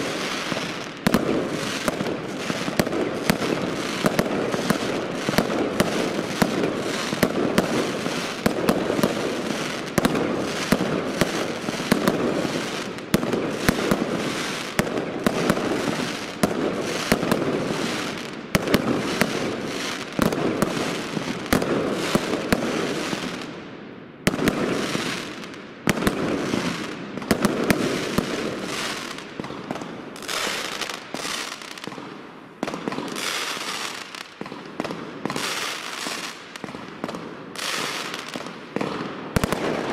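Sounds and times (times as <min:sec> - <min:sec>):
fireworks shots and bursts: 0:00.0 - 0:39.9.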